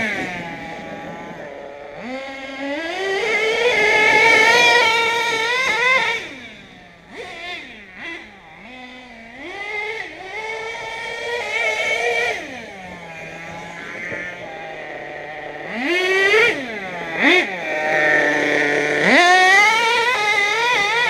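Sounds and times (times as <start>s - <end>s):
small engine revving: 0.0s - 21.0s.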